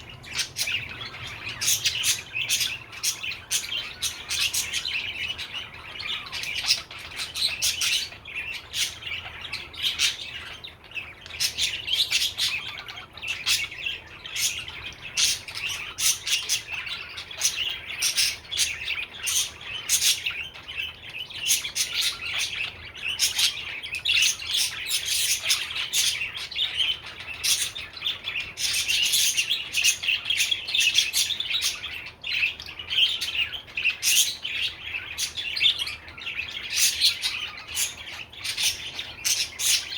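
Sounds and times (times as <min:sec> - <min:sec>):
budgerigar warbling and chattering: 0:00.0 - 0:39.9.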